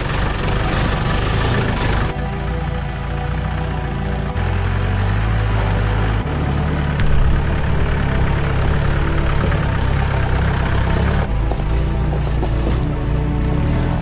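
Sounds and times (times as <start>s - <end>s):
jeep engine running under load: 0.0s - 14.0s.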